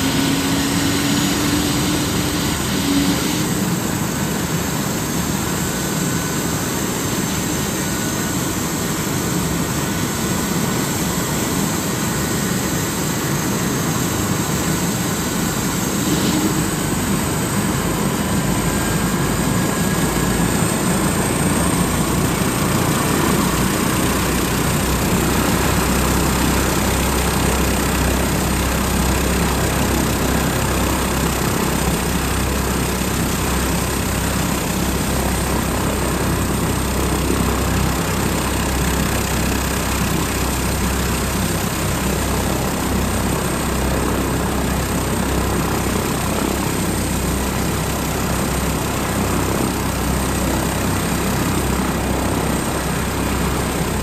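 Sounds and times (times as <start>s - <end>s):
helicopter engines and rotor running: 0.0s - 54.0s.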